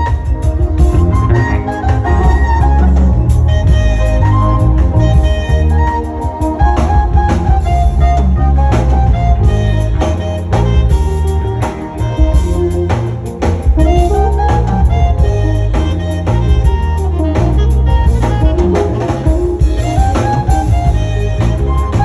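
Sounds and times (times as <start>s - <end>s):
drum kit beats: 0.0s - 22.0s
heavy bass line: 0.0s - 22.0s
live band playing amplified music: 0.0s - 22.0s.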